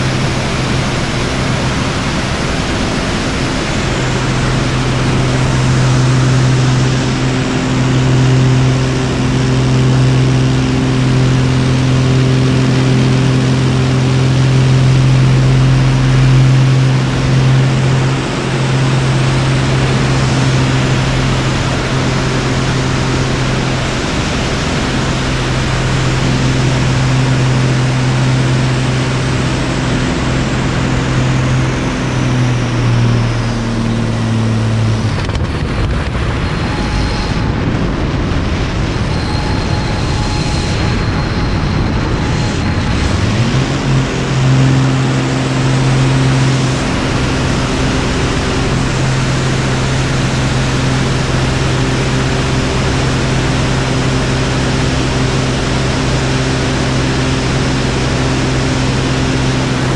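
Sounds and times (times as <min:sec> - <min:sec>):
propeller plane engine: 0:00.0 - 0:59.9
wind rush: 0:00.0 - 0:59.9.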